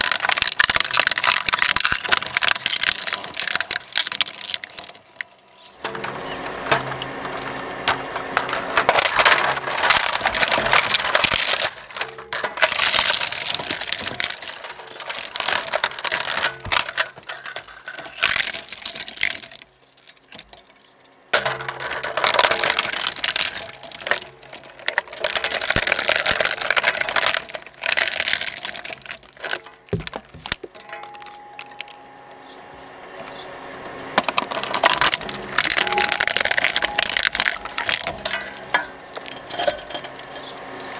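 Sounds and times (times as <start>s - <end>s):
plastic cracking and crunching: 0.0s - 32.0s, 34.2s - 40.3s
shredder drive humming: 0.0s - 40.9s.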